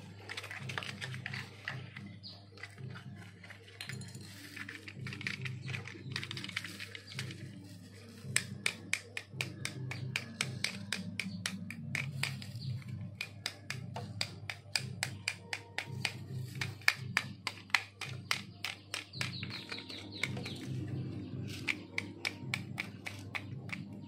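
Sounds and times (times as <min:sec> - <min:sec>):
background music: 0:00.0 - 0:24.0
plastic toy cars clicking: 0:04.3 - 0:24.0.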